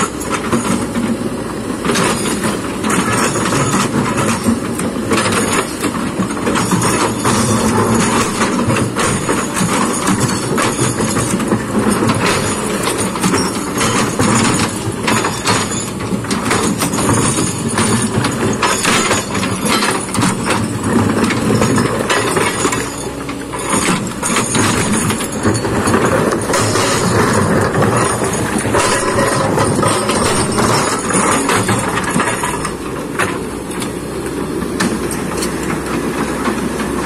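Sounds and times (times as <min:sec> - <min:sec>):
excavator diesel engine: 0:00.0 - 0:37.0
metal and rock clanking: 0:00.0 - 0:37.0.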